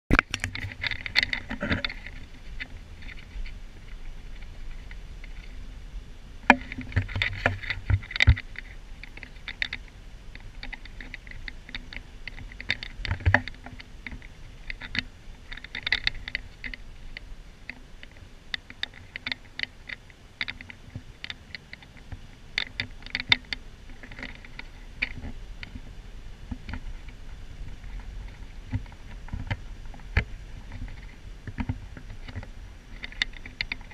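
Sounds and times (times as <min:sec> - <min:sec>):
small clicks and rattles: 0:00.1 - 0:05.8, 0:06.4 - 0:33.9.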